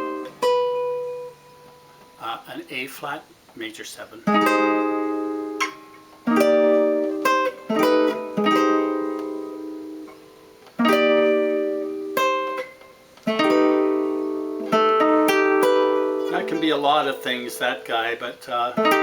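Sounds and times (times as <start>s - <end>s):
jazz guitar chords and melody: 0.0s - 2.3s, 4.2s - 19.0s.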